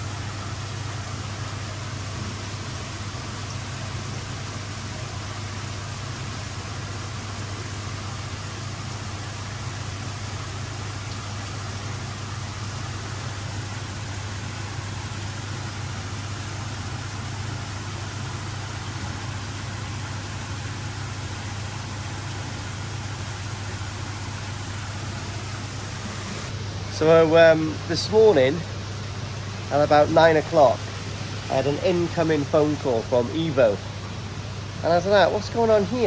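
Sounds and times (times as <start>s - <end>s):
pump humming: 0.0s - 36.0s
water rushing: 0.0s - 36.0s.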